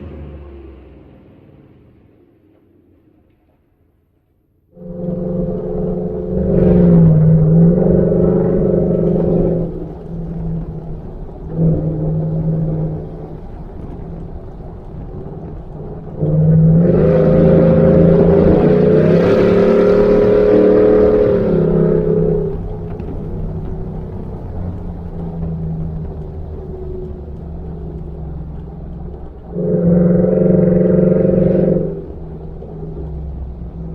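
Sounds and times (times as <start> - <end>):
truck exhaust under throttle: 0.0 - 3.8, 4.7 - 33.9.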